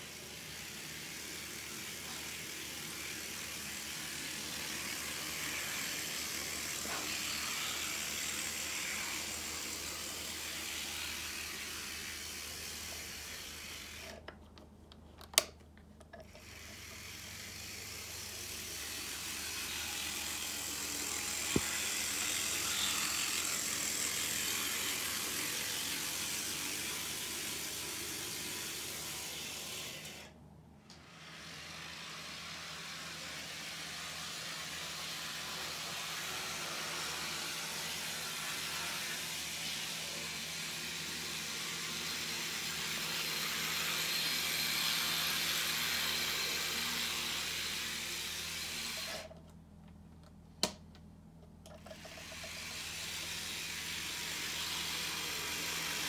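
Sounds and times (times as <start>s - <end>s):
model locomotive motor whirring: 0.0s - 14.4s, 15.2s - 49.4s, 51.7s - 56.0s.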